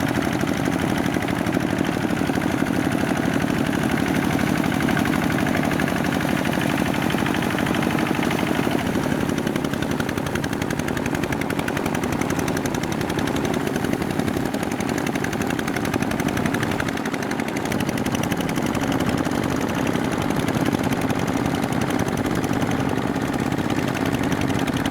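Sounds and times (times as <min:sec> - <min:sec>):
diesel tractor engine running: 0:00.0 - 0:24.9.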